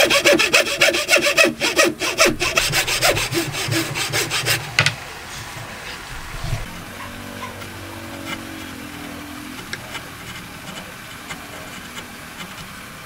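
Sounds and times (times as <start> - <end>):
hand saw cutting wood: 0.0 - 4.9, 6.6 - 13.0.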